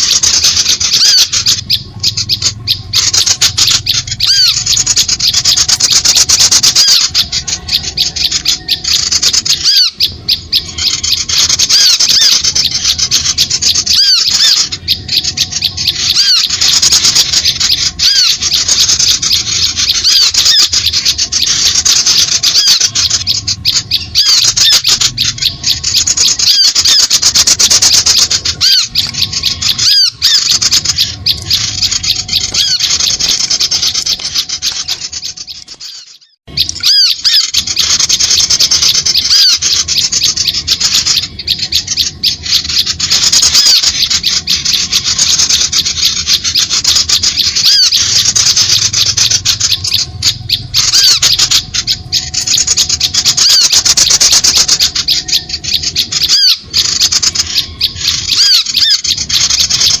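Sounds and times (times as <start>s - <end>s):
chorus of small birds chirping: 0.0s - 60.0s.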